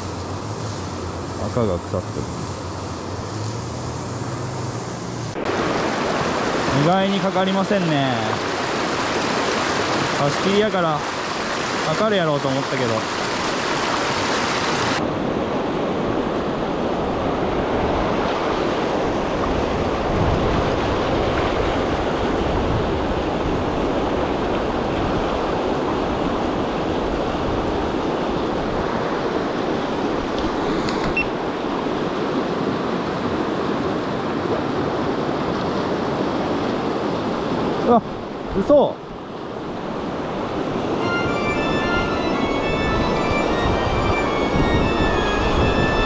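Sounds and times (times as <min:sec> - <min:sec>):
river water rushing: 0:00.0 - 0:46.0.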